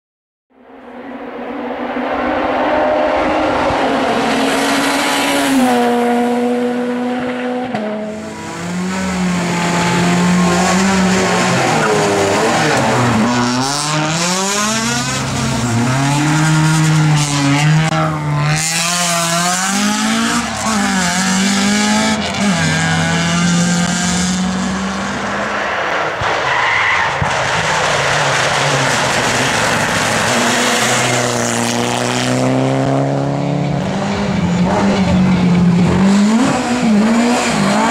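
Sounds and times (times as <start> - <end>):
rally car engines at full throttle: 0.6 - 37.9.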